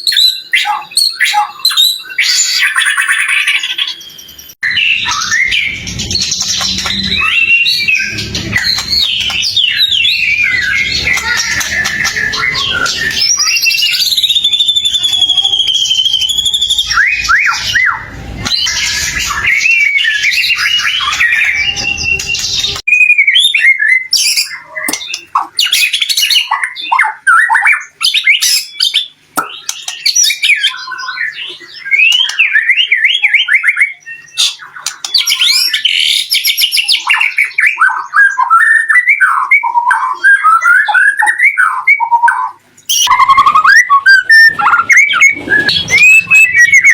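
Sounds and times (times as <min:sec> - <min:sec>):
bird singing whistles and squawks: 0:00.0 - 0:46.9.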